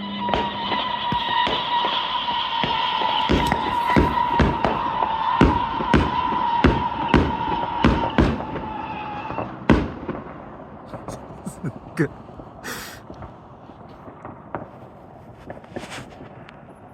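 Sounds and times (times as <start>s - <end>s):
fireworks booming: 0.2s - 16.8s.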